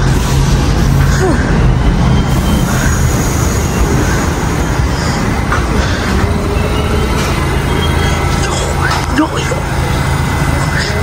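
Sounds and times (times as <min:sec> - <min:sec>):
subway train wheels on rails: 0:00.0 - 0:11.0.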